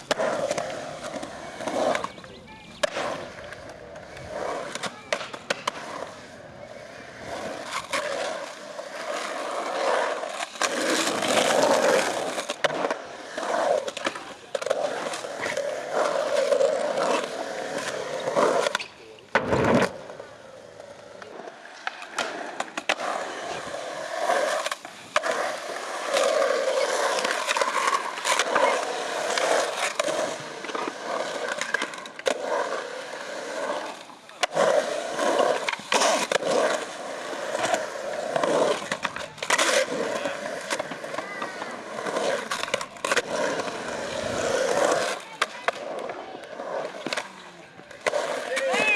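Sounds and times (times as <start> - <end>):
skateboard clacking on concrete: 0.0 - 48.9
skateboard wheels rolling on concrete: 0.0 - 48.9.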